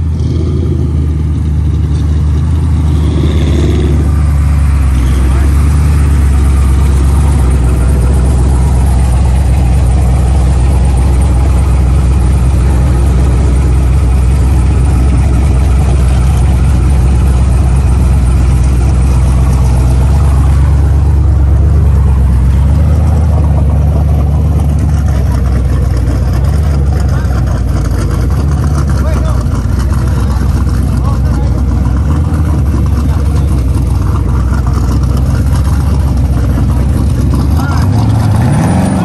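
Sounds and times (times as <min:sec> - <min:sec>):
pickup truck engine idling: 0:00.0 - 0:39.0.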